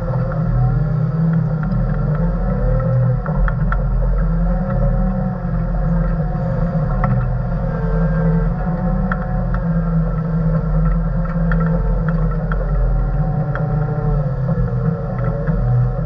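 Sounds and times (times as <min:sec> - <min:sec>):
faint clicks and knocks: 0:00.0 - 0:16.0.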